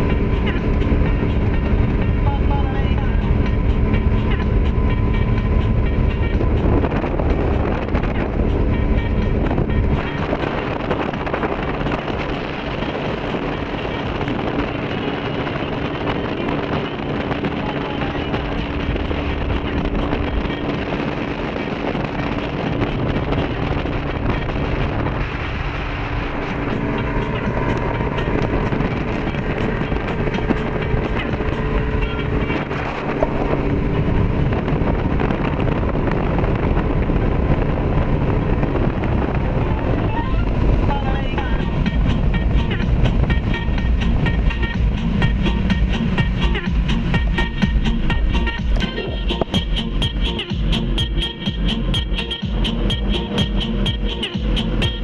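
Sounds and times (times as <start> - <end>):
boat engine droning: 0.0 - 55.0
wind and water rushing: 0.0 - 55.0.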